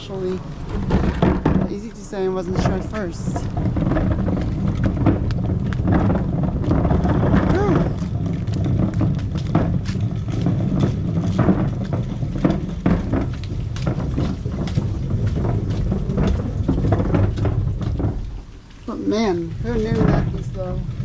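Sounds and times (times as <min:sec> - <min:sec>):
rain falling: 0:00.0 - 0:21.0
steady low rumble: 0:00.0 - 0:21.0.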